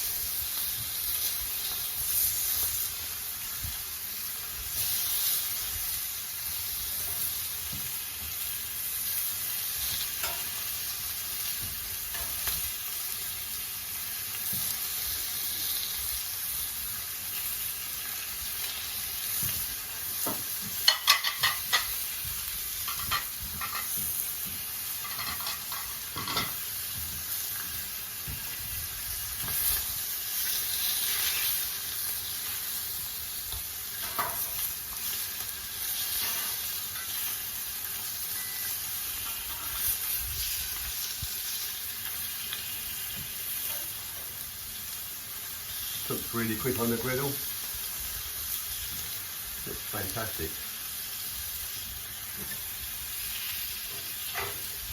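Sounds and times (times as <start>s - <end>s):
sausages sizzling in oil: 0.0s - 54.9s.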